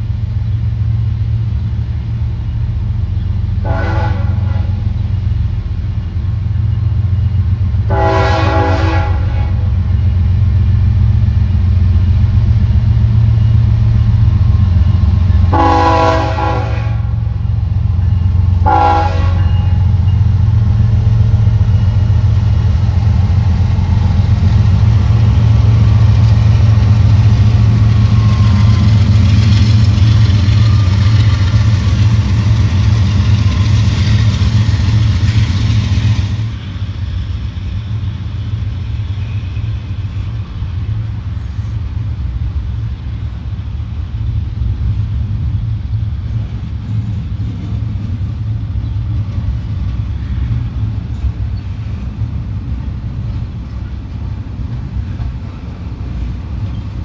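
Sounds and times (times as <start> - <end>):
diesel locomotive engines humming: 0.0 - 57.0.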